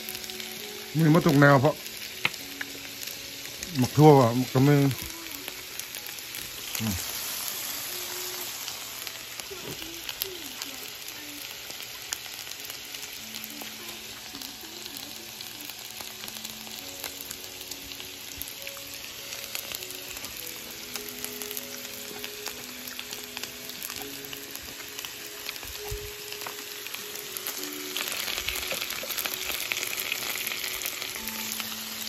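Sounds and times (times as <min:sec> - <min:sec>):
food sizzling on griddle: 0:00.0 - 0:32.0.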